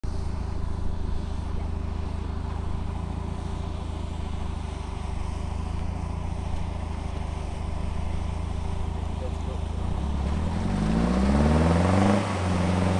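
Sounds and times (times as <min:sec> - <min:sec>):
diesel engine droning: 0:00.0 - 0:12.9.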